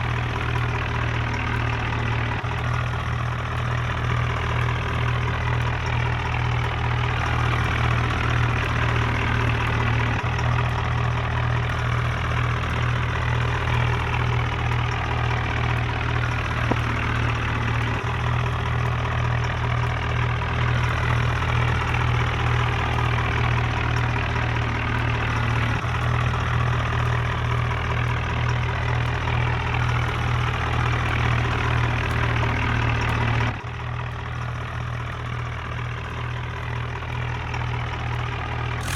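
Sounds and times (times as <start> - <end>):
tractor engine throbbing: 0.0 - 38.9.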